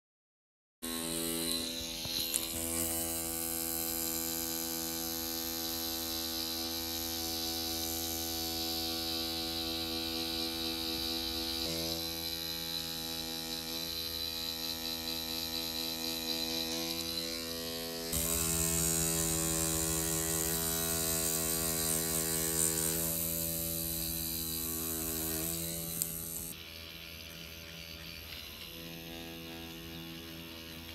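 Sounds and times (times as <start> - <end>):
tattoo machine buzzing: 0.8 - 30.9.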